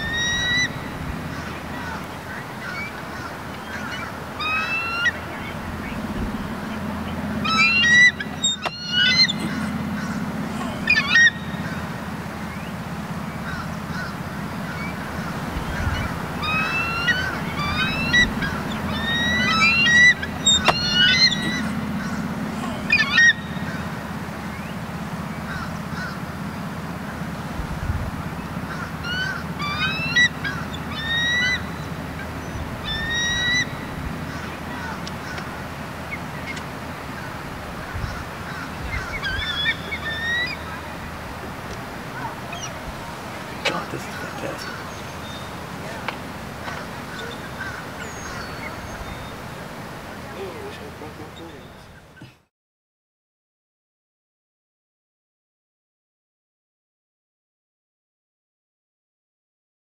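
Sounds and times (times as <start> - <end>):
eagles chittering calls: 0.0 - 52.3
steady low hum: 0.0 - 52.3.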